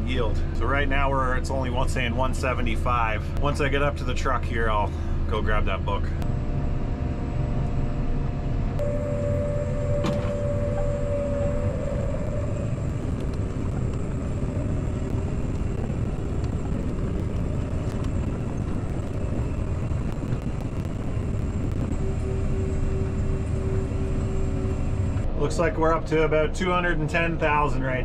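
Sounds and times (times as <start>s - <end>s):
engine whine: 0.0s - 28.0s
tractor engine rumbling: 0.0s - 28.0s.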